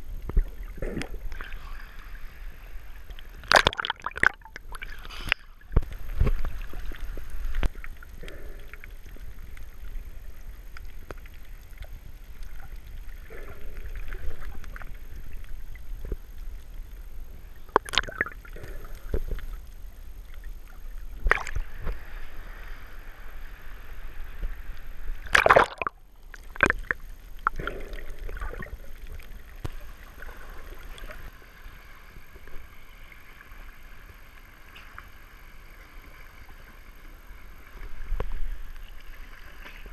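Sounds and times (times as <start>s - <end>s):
water sloshing and gurgling: 0.0s - 39.9s
water splashes: 0.2s - 16.5s, 17.6s - 35.0s.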